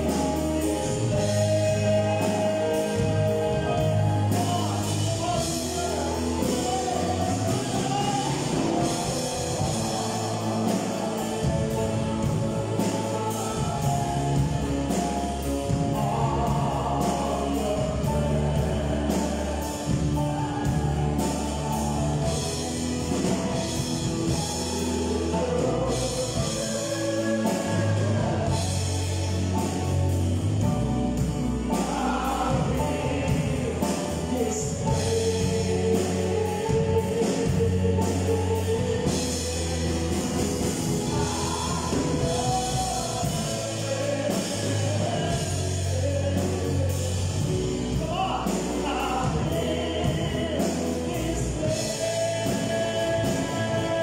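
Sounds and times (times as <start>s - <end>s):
band with guitar and keyboard: 0.0s - 54.0s
man singing into a microphone: 0.0s - 54.0s.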